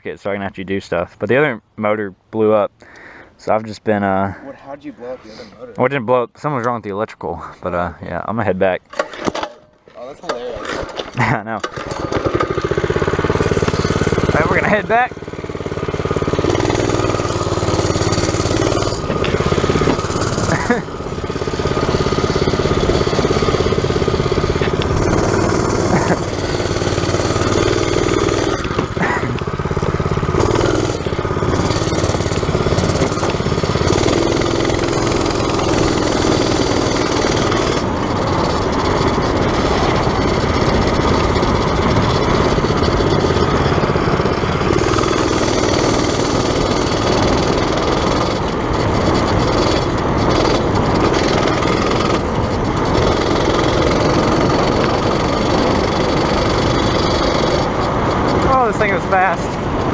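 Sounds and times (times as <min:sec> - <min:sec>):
dirt bike engine revving: 0:10.6 - 0:59.9.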